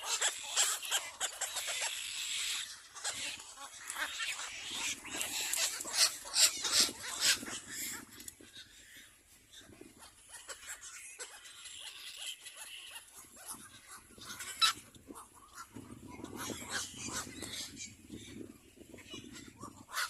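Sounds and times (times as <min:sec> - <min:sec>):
young birds squeaky calls: 0:00.0 - 0:20.0.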